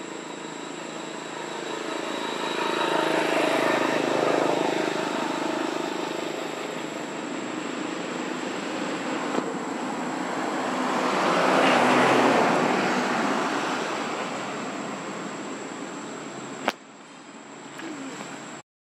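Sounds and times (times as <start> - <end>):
rushing outdoor noise: 0.0 - 18.6.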